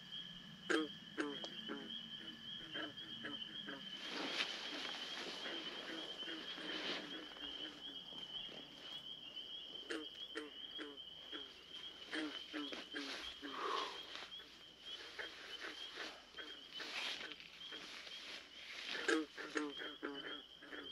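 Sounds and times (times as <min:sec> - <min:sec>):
owl hooting: 0:00.7 - 0:09.0, 0:09.9 - 0:20.9.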